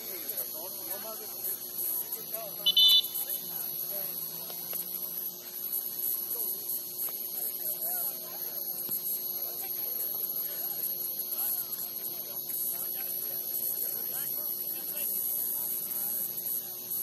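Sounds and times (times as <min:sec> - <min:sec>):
electrical hum: 0:00.0 - 0:17.0
faint distant voices: 0:00.0 - 0:17.0
high steady whine: 0:00.0 - 0:17.0.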